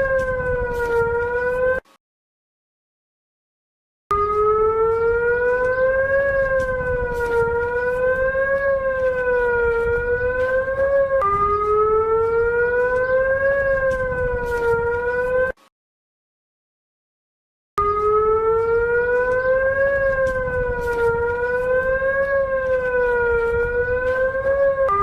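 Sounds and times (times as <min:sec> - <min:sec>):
rising and falling alert siren: 0:00.0 - 0:01.9, 0:04.1 - 0:15.6, 0:17.8 - 0:25.0.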